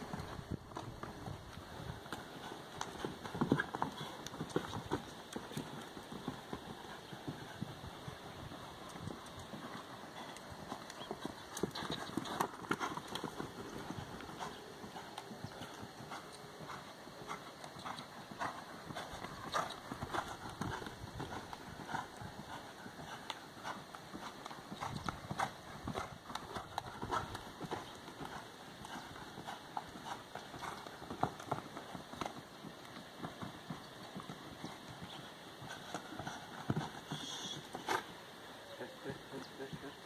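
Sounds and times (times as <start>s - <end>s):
horse hoofbeats on soft dirt: 0.0s - 40.0s.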